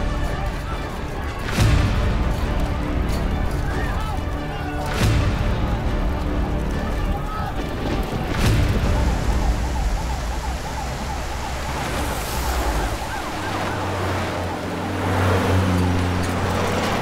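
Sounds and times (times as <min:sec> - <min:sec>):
police siren wailing: 0:00.0 - 0:17.0
vehicle engine hum: 0:00.0 - 0:17.0.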